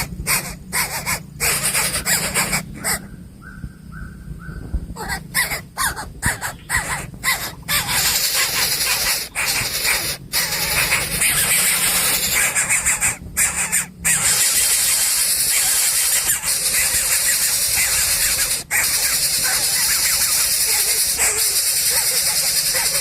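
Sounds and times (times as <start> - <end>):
bird chick begging squeals: 0.0 - 23.0.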